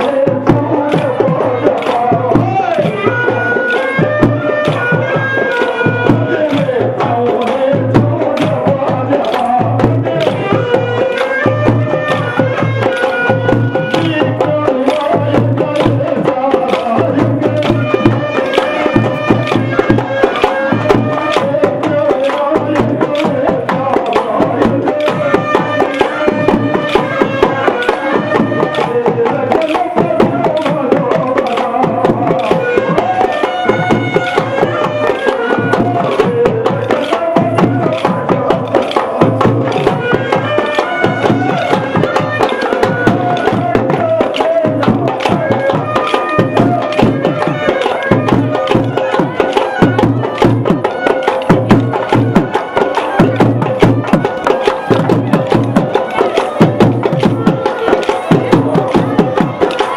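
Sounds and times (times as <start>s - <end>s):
steady drum beat: 0.0s - 59.9s.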